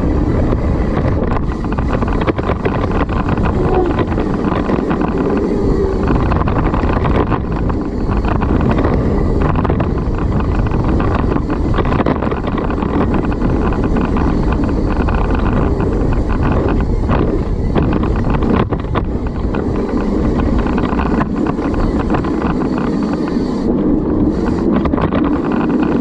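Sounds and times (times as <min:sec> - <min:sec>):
bike rattling over rough trail: 0:00.0 - 0:26.0
wind rushing over microphone: 0:00.0 - 0:26.0.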